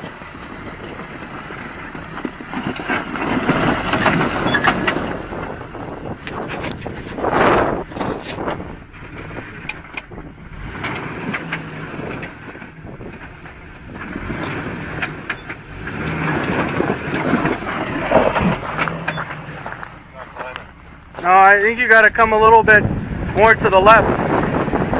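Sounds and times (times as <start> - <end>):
truck engine revving: 0.0 - 24.9
wind buffeting microphone: 1.0 - 19.8, 20.7 - 24.9.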